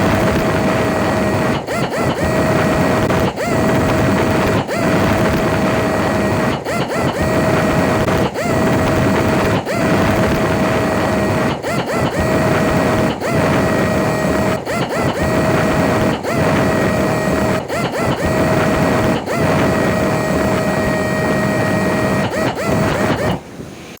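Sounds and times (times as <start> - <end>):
buffing machine whining: 0.0 - 23.6.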